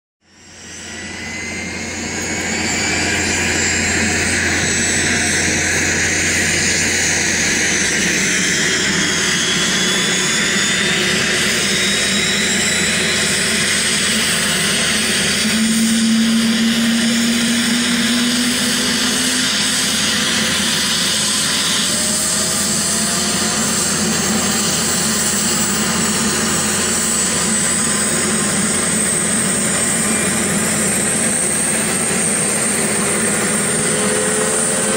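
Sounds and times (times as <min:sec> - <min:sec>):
aircraft engine and propeller drone: 0:00.2 - 0:34.9.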